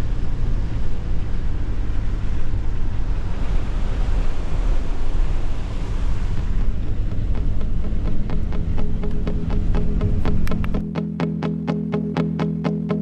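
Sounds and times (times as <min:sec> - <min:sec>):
car engine and tyre rumble: 0:00.0 - 0:10.9
wind noise: 0:00.0 - 0:10.9.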